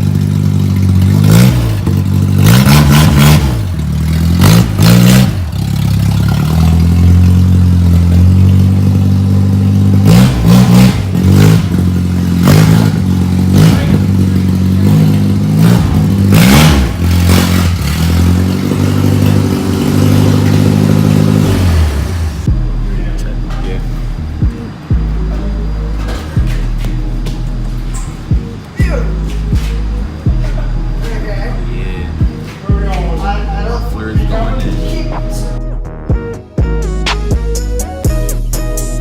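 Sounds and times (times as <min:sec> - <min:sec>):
pickup engine idling and revving: 0:00.0 - 0:39.0.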